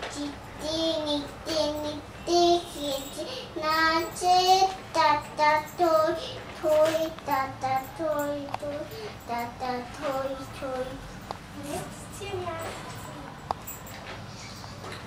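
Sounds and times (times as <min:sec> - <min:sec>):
girl singing: 0:00.0 - 0:13.4.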